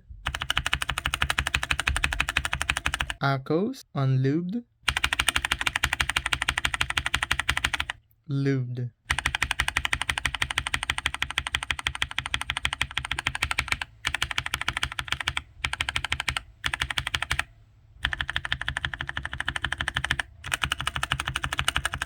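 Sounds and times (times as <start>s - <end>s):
mechanical keyboard clacking: 0.3s - 3.2s, 4.9s - 8.0s, 9.1s - 22.0s.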